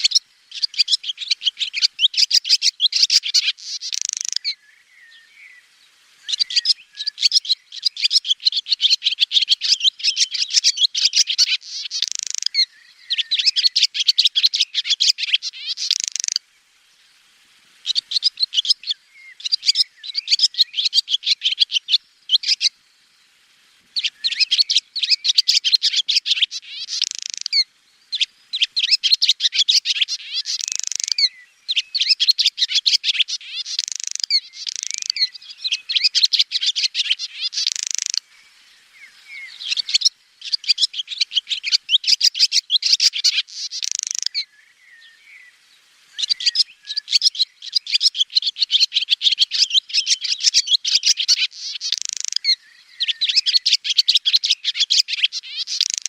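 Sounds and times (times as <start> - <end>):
swallow twittering: 0.0 - 5.6, 6.2 - 16.4, 17.8 - 22.8, 24.0 - 56.0.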